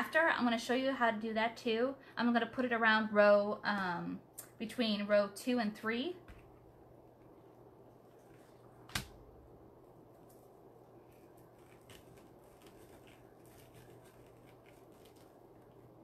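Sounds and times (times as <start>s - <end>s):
low fan hum: 0.0s - 16.0s.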